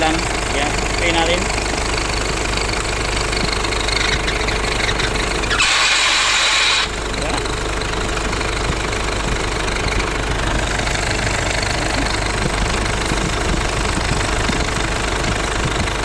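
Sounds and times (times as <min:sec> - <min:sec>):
air conditioning compressor noise: 0:00.0 - 0:16.0
engine idling: 0:00.0 - 0:16.0.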